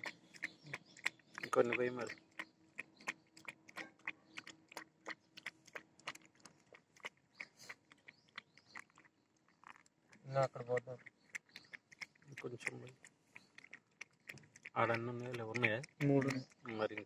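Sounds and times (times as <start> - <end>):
puppy lapping and chewing: 0.0 - 17.0.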